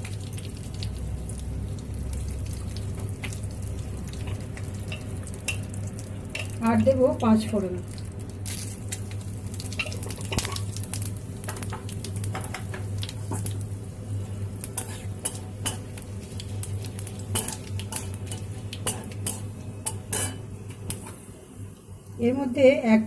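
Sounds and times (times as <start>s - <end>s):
low steady hum: 0.0s - 23.0s
spices sizzling in hot oil: 0.0s - 23.0s.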